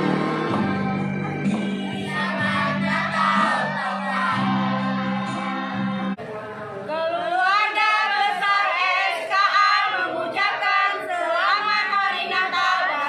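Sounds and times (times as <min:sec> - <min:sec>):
group singing unaccompanied: 0:00.0 - 0:06.2, 0:06.8 - 0:13.0.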